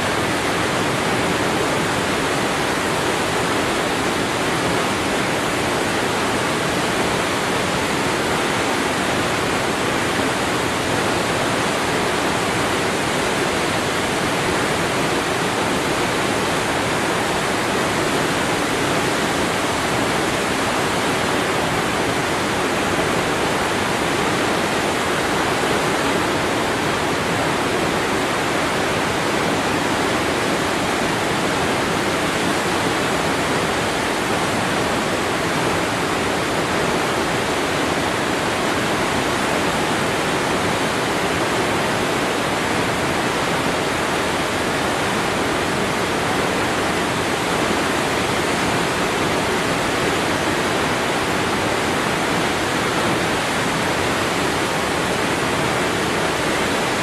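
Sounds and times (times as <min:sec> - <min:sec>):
waterfall crashing: 0:00.0 - 0:57.0.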